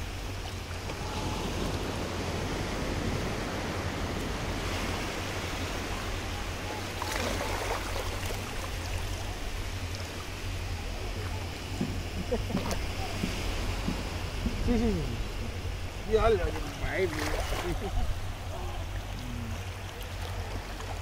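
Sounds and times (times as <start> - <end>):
waves washing over sand: 0.0 - 21.0.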